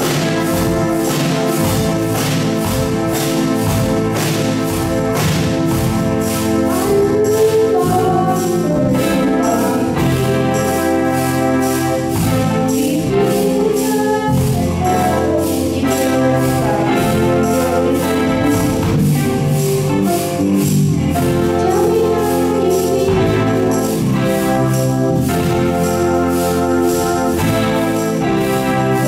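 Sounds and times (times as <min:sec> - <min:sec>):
bass guitar: 0:00.0 - 0:29.0
drumbeat with cymbals: 0:00.0 - 0:29.0
electric guitar: 0:00.0 - 0:29.0
organ-like keyboard chords: 0:00.0 - 0:29.0
tambourine shaking: 0:00.0 - 0:29.0.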